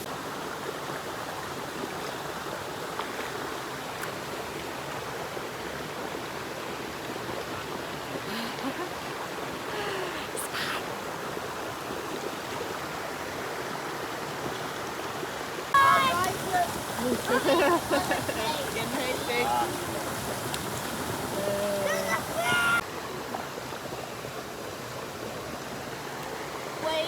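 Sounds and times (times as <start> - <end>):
water rushing over small cascades: 0.0 - 27.0.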